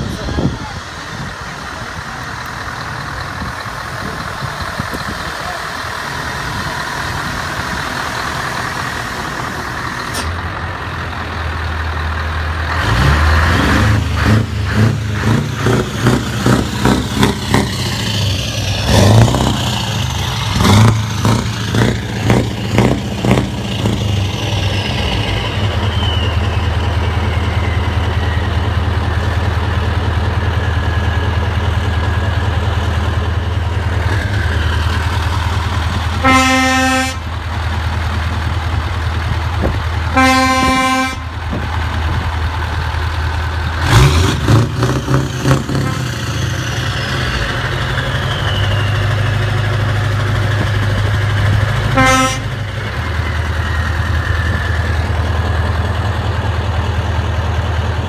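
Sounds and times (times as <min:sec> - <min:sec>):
diesel truck engine revving: 0:00.0 - 0:58.0.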